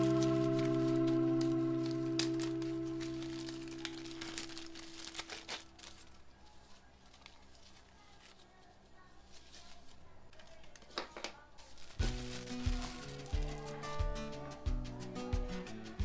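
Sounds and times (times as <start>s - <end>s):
plastic bag crinkling: 0.0s - 14.4s.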